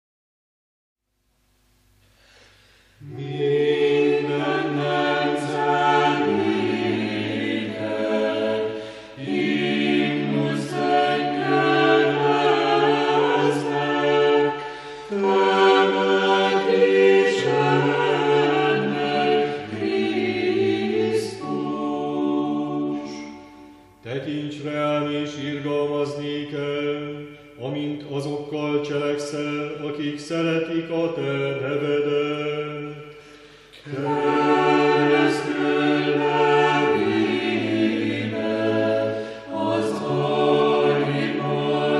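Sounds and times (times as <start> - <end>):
choir singing sustained chords: 2.3 - 41.9.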